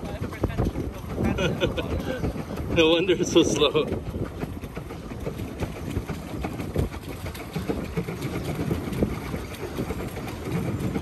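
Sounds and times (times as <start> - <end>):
paddle wheel churning water: 0.0 - 11.0.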